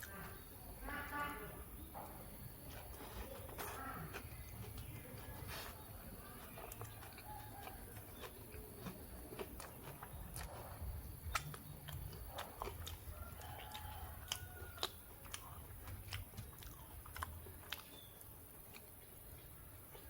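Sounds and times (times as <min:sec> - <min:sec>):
mouth clicks and crunches: 0:00.0 - 0:20.0
person chewing food: 0:00.0 - 0:20.0.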